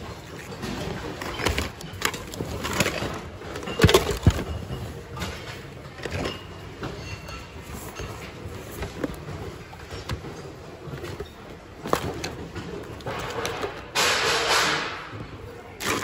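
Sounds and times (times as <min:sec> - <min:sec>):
plastic items clattering and rustling: 0:00.0 - 0:16.0.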